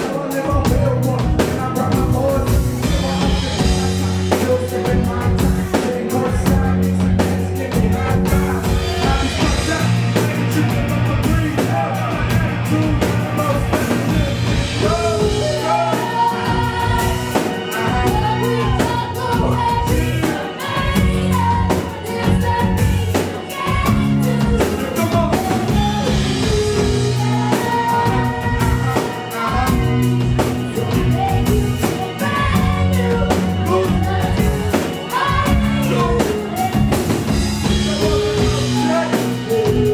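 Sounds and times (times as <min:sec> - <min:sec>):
drum kit: 0:00.0 - 0:39.9
electric guitar: 0:00.0 - 0:39.9
keyboards: 0:00.0 - 0:39.9
lead vocals: 0:00.0 - 0:39.9
repeating bass line: 0:00.0 - 0:39.9.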